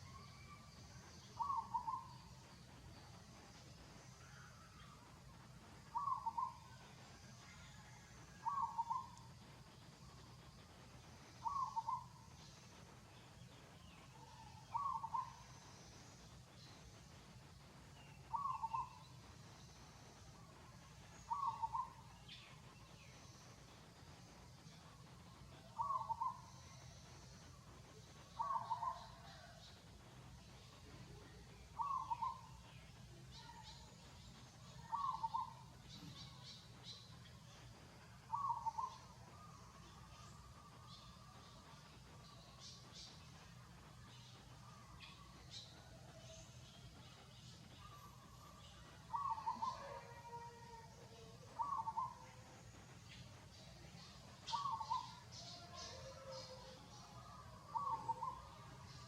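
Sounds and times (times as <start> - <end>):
faint high chirps: 0.0 - 59.0.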